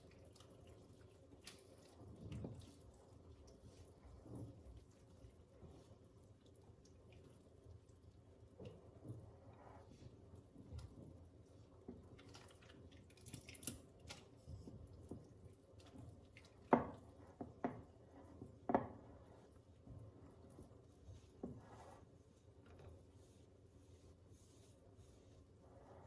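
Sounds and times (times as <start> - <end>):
soft wet squishing: 0.0 - 26.0.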